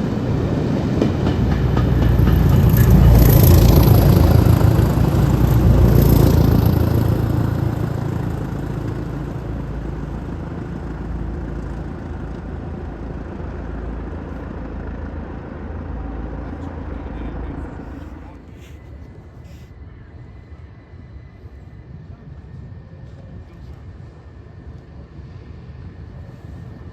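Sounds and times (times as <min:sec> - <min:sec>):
train rumbling past: 0:00.0 - 0:26.9.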